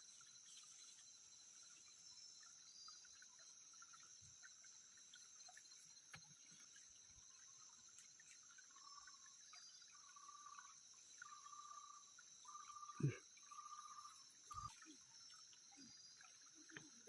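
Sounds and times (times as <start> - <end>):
insects buzzing: 0.0 - 17.0
short insect call: 0.0 - 17.0.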